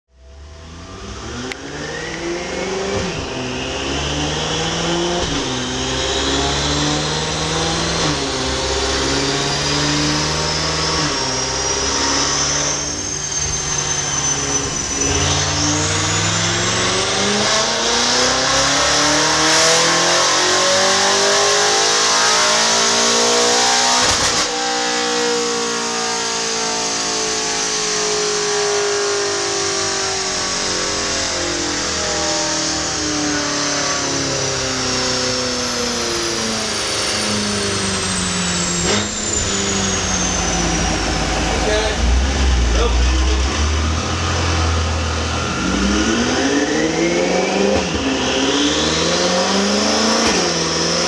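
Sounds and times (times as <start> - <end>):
rising whine: 0.1 - 51.0
car engine accelerating through gears: 0.2 - 51.0.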